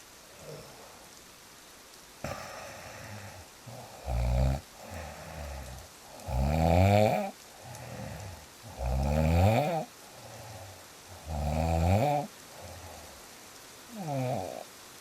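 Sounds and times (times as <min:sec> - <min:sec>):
faint hiss: 0:00.0 - 0:15.0
person snoring: 0:00.4 - 0:01.0, 0:02.2 - 0:13.2, 0:13.9 - 0:14.7.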